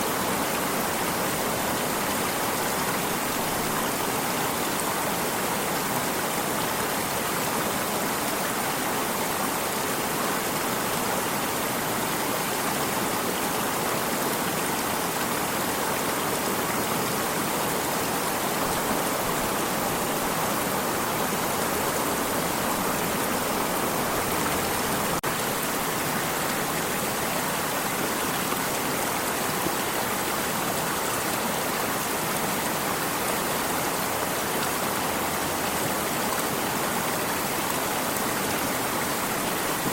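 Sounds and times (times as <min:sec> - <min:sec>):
flowing stream rushing: 0:00.0 - 0:39.9.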